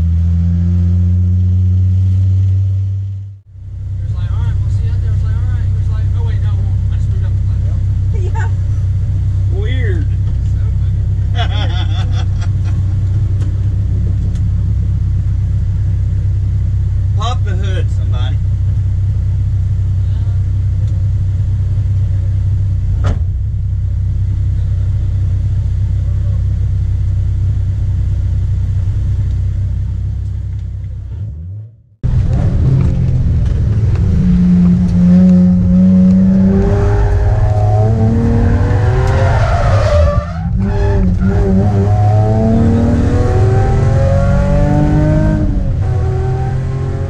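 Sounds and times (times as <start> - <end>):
car engine idling and accelerating: 0.0 - 47.0.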